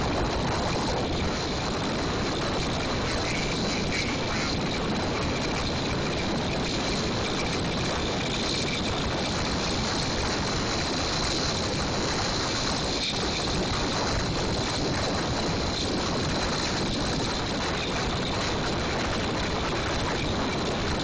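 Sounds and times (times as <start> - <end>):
wind rushing on microphone: 0.0 - 21.0.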